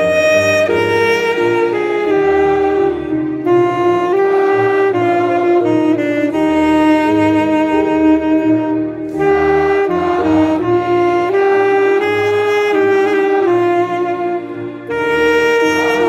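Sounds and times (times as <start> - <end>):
alto saxophone slow melody: 0.0 - 16.0.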